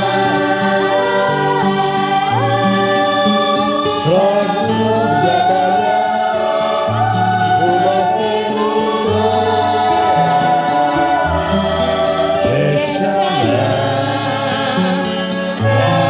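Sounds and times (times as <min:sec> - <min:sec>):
children singing: 0:00.0 - 0:16.0
instrumental accompaniment: 0:00.0 - 0:16.0.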